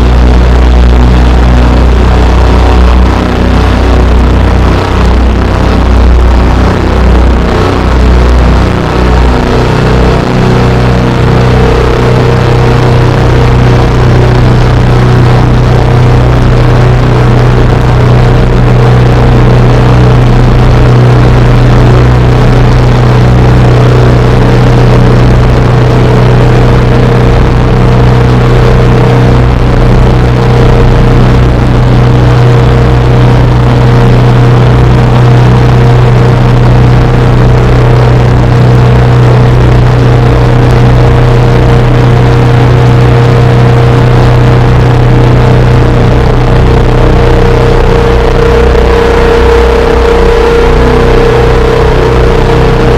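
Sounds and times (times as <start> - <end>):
dense noise layer: 0.0 - 52.9
low drone: 0.0 - 52.9.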